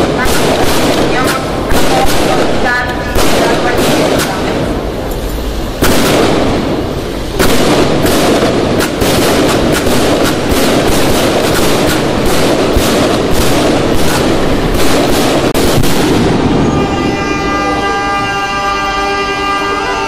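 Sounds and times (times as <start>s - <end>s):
firecrackers banging: 0.0s - 20.0s.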